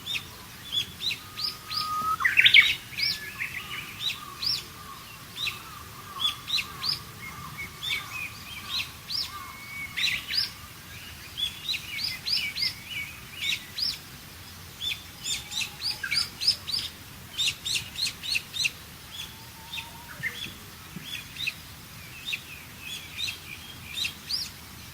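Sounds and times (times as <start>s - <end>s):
faint steady hiss: 0.0s - 24.9s
songbirds chirping: 0.0s - 24.9s.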